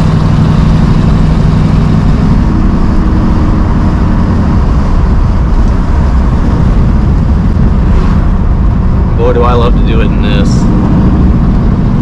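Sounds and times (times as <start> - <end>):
car engine rumble from inside cabin: 0.0 - 12.0.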